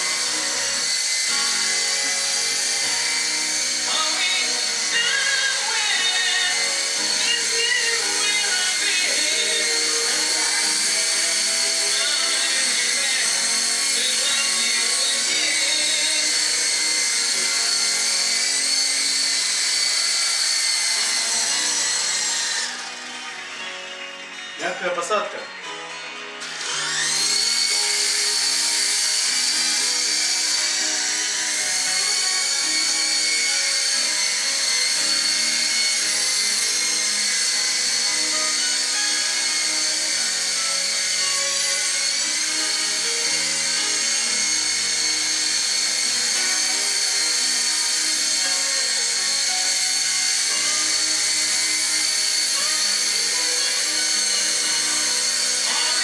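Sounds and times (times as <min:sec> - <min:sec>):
toy helicopter motor whine: 0:00.0 - 0:56.0.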